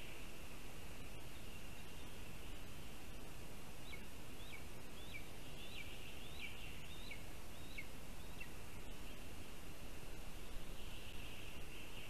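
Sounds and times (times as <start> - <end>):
forest background hiss: 0.0 - 12.0.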